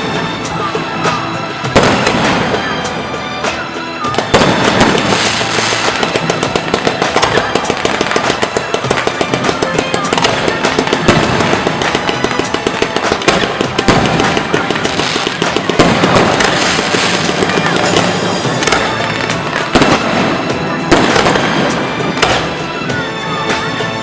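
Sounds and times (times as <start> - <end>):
heavy firework bangs: 0.0 - 23.0
fireworks crackling: 0.0 - 24.0.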